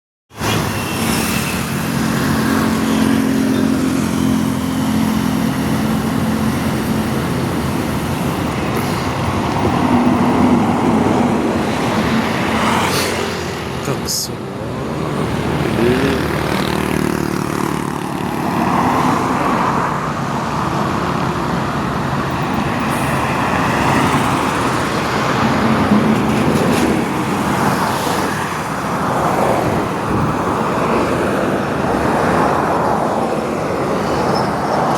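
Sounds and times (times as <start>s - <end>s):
bus diesel engine: 0.3s - 34.9s
road noise: 0.3s - 34.9s.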